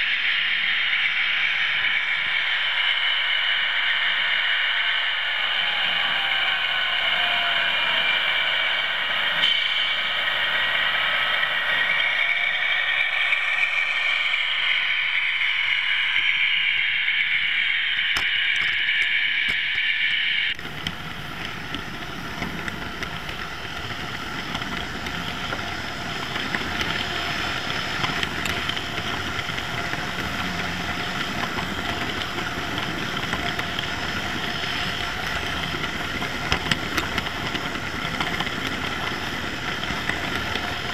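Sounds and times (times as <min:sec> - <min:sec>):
mechanical hum with rattle: 0:00.0 - 0:40.9
model train whine: 0:00.0 - 0:40.9.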